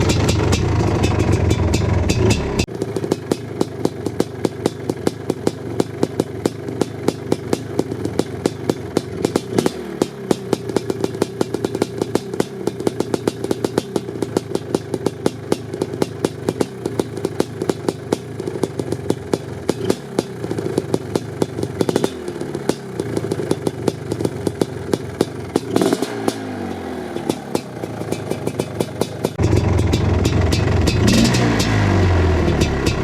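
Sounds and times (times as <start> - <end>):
two-stroke engine idling with pops: 0.0 - 33.0.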